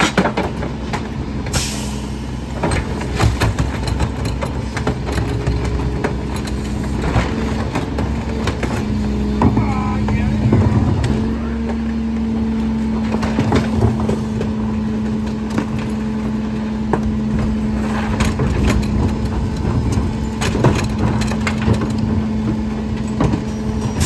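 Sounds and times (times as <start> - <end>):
garbage truck running: 0.0 - 24.0
trash carts knocking and banging: 0.0 - 24.0.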